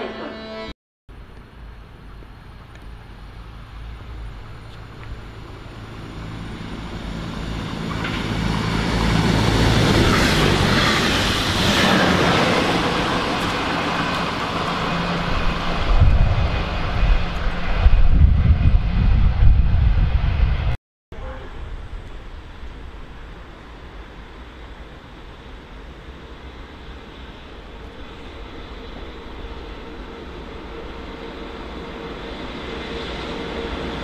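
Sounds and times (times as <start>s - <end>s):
train passing close by: 1.5s - 34.0s.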